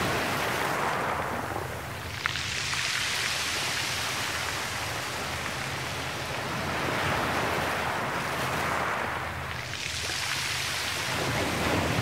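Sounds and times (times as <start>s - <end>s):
waves washing onto stony beach: 0.0s - 12.0s.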